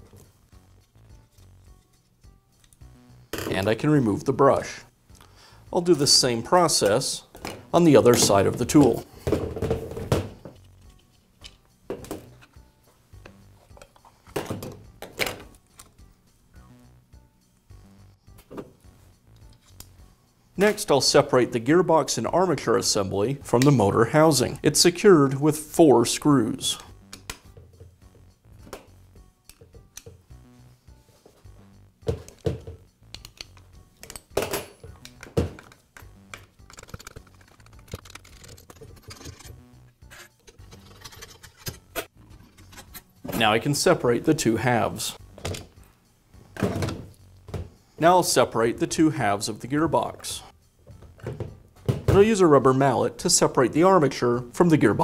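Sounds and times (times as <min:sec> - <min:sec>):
soft background music: 0:00.0 - 0:55.0.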